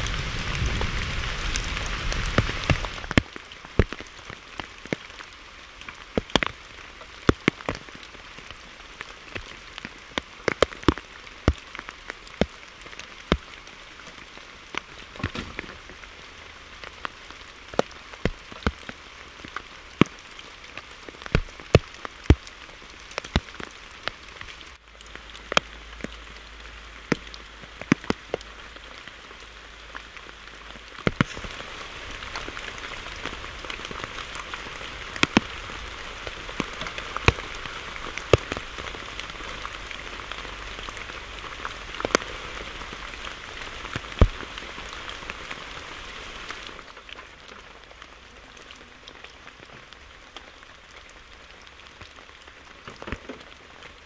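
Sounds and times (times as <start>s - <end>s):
heavy raindrops tapping: 0.0s - 54.0s
rain falling: 0.0s - 54.0s.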